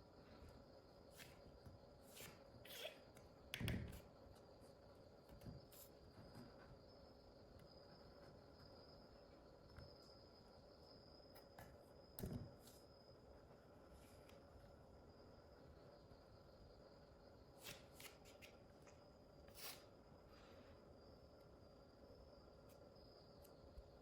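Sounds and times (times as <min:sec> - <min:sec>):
faint high whine: 0:00.0 - 0:24.0.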